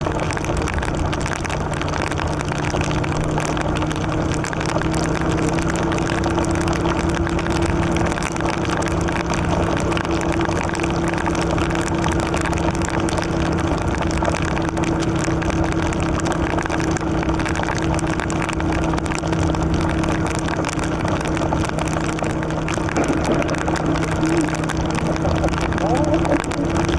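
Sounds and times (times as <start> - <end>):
motorcycle engine cruising: 0.0 - 26.9
wind and road noise: 0.0 - 26.9.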